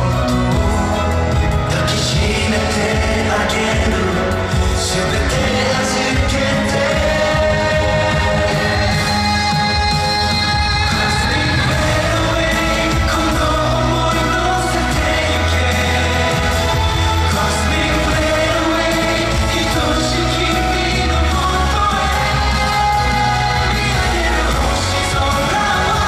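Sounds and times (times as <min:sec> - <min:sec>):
man singing into microphone: 0:00.0 - 0:26.0
pop backing track with bass: 0:00.0 - 0:26.0.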